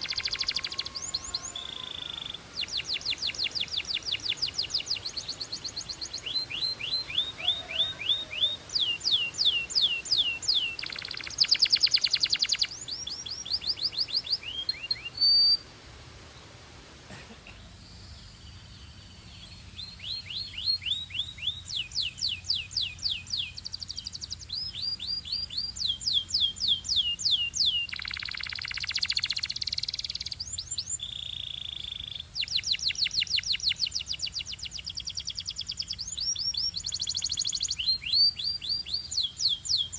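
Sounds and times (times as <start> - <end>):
canary singing: 0.0 - 15.7, 19.0 - 39.9.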